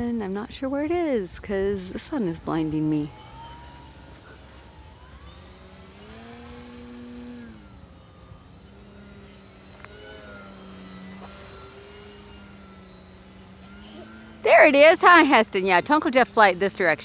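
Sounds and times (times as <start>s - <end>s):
faint model airplane motor hum: 0.0s - 17.0s.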